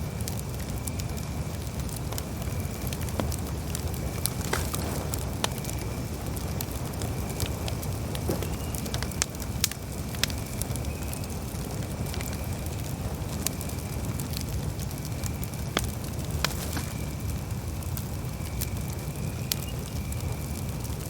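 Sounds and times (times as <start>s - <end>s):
campfire crackling: 0.0s - 21.0s
fire popping: 0.0s - 21.0s.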